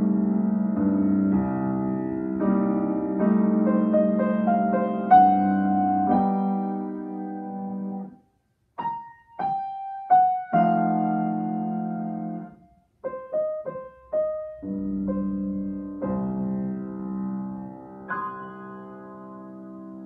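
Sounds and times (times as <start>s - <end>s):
solo grand piano: 0.0s - 20.0s.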